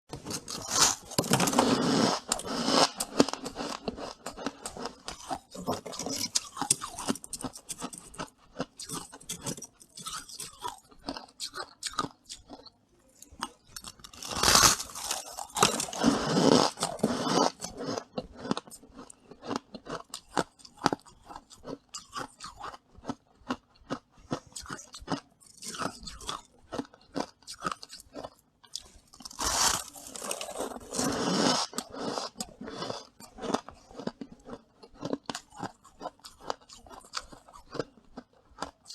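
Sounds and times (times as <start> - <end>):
crunching and chewing frost: 0.1 - 38.9.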